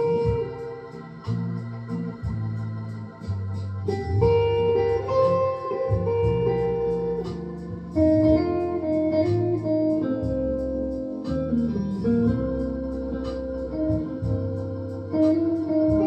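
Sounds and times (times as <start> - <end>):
electric guitar melody: 0.0 - 16.0.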